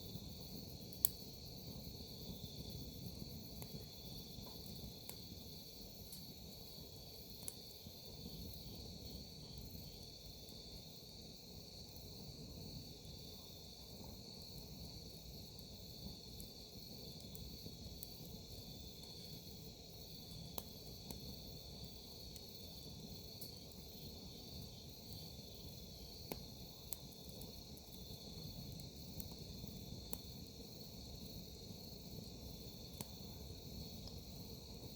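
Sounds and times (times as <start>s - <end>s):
campfire crackling: 0.0s - 34.9s
crickets chirping: 0.0s - 34.9s.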